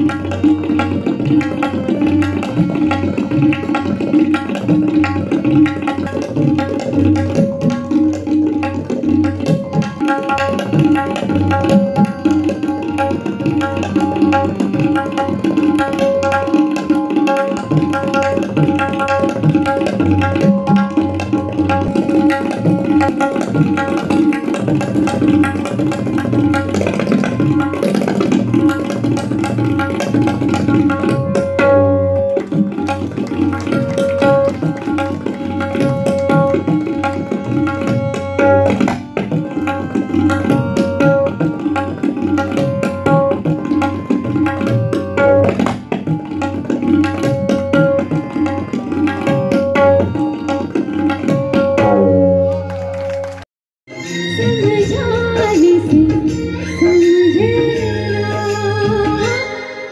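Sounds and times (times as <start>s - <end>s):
tabla fast strokes: 0.0s - 53.5s.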